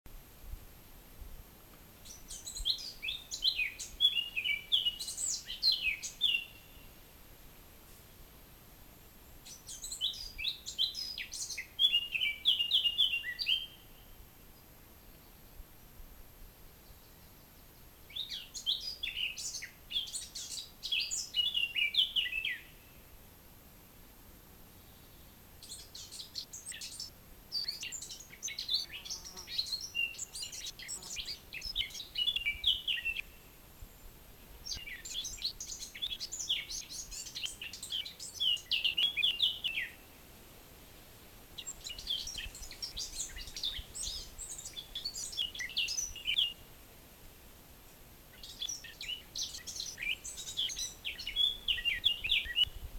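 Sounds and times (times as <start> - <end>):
songbird singing: 2.0 - 7.1, 9.2 - 15.7, 16.6 - 23.2, 24.6 - 40.4, 41.4 - 46.8, 47.9 - 52.9.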